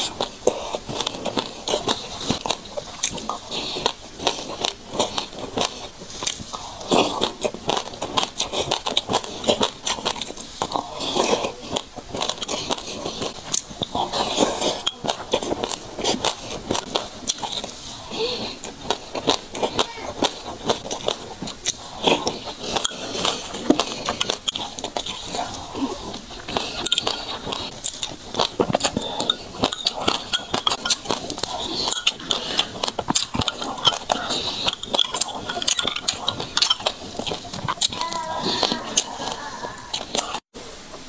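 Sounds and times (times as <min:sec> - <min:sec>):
chewing with crackling clicks: 0:00.0 - 0:40.5.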